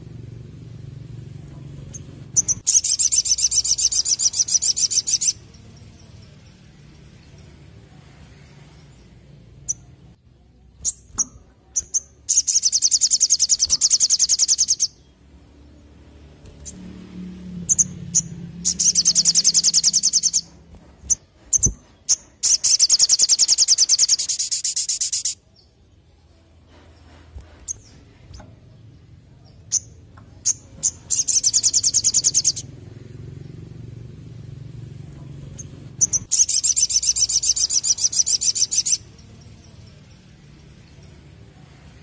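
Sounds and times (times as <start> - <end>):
bird chirps: 1.5 - 7.7, 8.5 - 15.8, 17.6 - 33.7, 35.2 - 41.6
bird singing rapid high trills: 1.8 - 25.8, 27.6 - 42.0.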